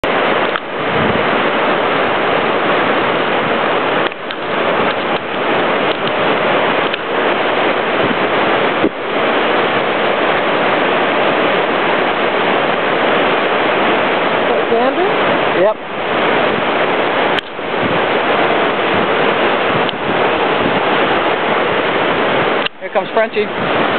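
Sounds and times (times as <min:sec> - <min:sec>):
whitewater rapids roaring: 0:00.0 - 0:23.9.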